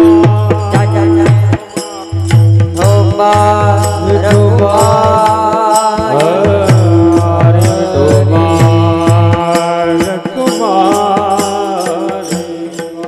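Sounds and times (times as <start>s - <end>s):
percussion beat: 0.0s - 13.0s
person singing devotional song: 0.0s - 13.0s.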